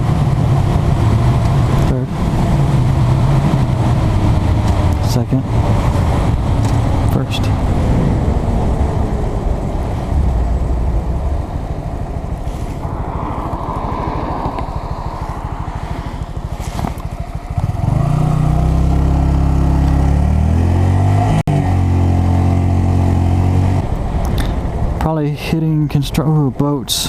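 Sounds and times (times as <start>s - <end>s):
motorcycle engine idling and accelerating: 0.0s - 27.0s.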